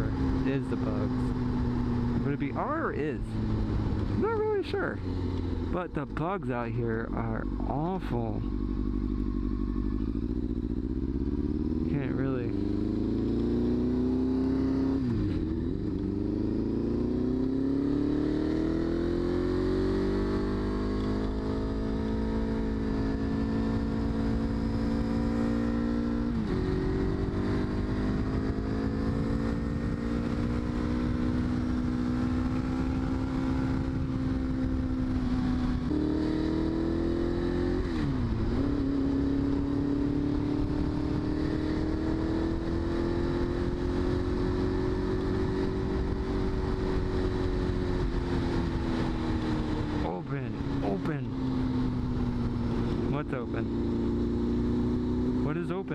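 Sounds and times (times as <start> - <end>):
motorcycle engine at road speed: 0.0 - 55.9
wind and road noise: 0.0 - 55.9.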